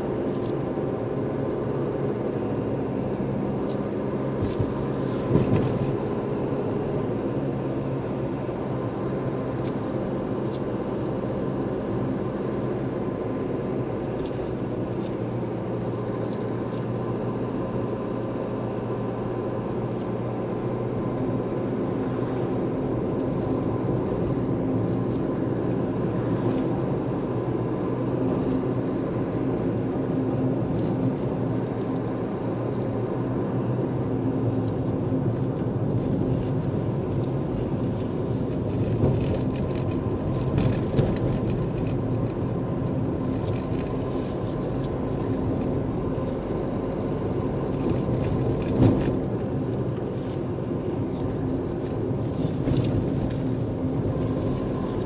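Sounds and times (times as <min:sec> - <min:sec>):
car engine hum: 0:00.0 - 0:55.0.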